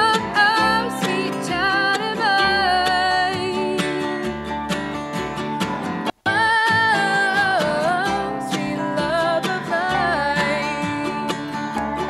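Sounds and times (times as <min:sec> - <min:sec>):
woman singing: 0:00.0 - 0:04.5, 0:06.2 - 0:12.0
strummed acoustic guitar: 0:00.0 - 0:12.0
upright bass: 0:00.0 - 0:12.0.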